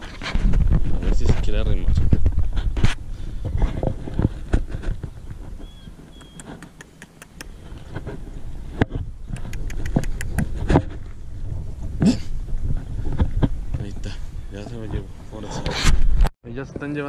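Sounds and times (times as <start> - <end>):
wind rumbling on microphone: 0.0 - 6.6, 7.4 - 17.0.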